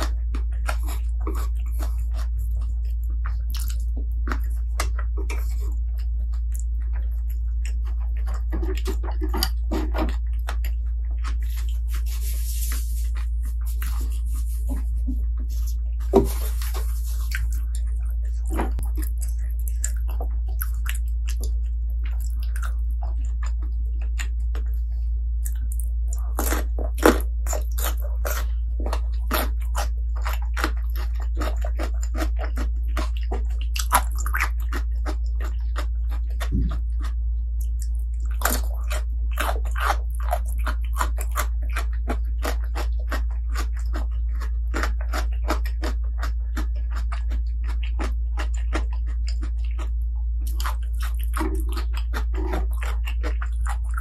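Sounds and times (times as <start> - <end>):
person chewing and crunching food: 0.0 - 54.0
steady low hum: 0.0 - 54.0.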